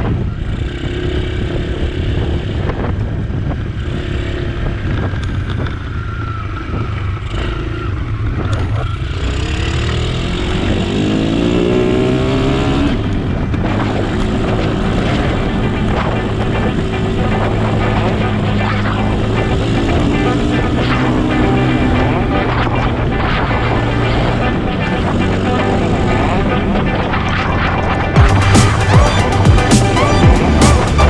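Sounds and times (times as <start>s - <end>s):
road rumble: 0.0s - 31.0s
vehicle engine running: 0.1s - 31.0s.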